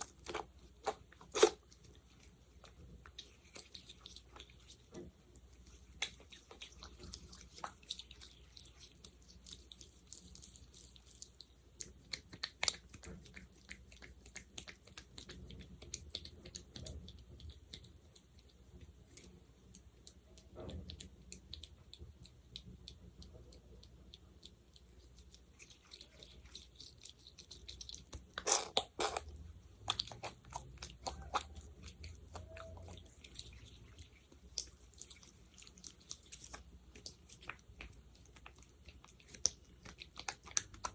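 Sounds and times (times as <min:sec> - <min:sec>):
sticky gel worked with fingers: 0:00.0 - 0:40.9.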